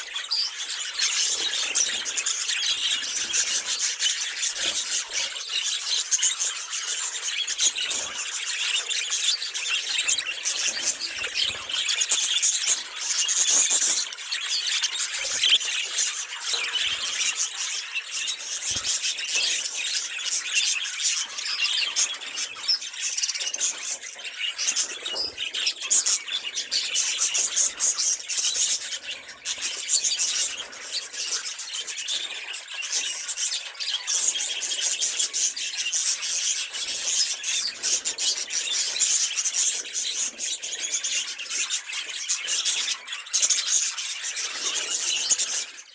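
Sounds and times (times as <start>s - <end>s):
budgerigars chattering and warbling: 0.0s - 45.9s.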